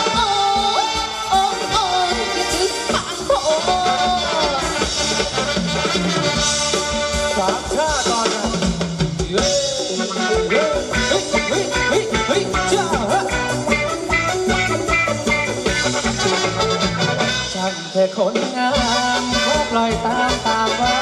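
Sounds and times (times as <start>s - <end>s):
drum kit beat: 0.0s - 21.0s
live band dance music: 0.0s - 21.0s.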